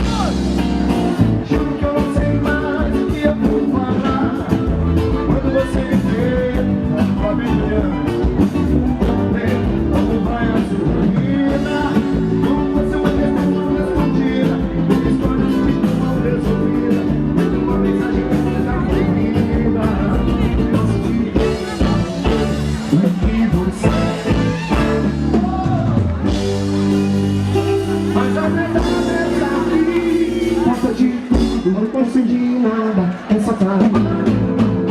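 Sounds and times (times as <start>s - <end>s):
person singing: 0.0s - 26.1s, 27.6s - 34.9s
band music: 0.0s - 34.9s.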